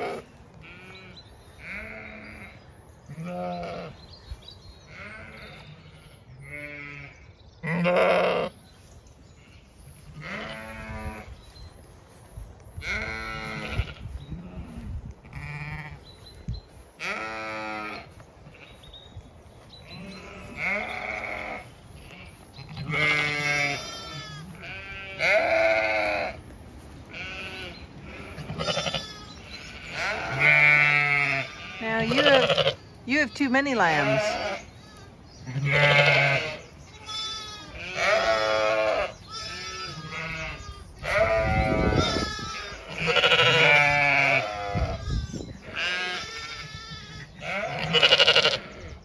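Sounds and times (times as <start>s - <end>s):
ewe calling: 0.0s - 4.0s, 4.8s - 12.2s, 12.8s - 18.9s, 19.8s - 49.0s
lambs bleating: 0.0s - 4.0s, 4.9s - 8.6s, 9.4s - 11.3s, 12.8s - 16.0s, 17.0s - 18.8s, 19.8s - 26.4s, 27.1s - 32.8s, 33.8s - 49.0s.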